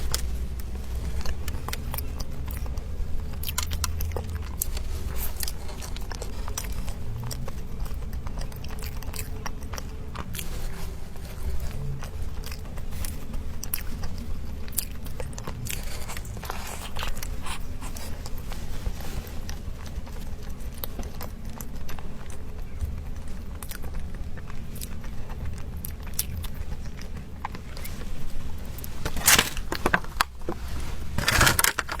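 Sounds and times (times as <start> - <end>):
chewing pastry: 0.0 - 32.0.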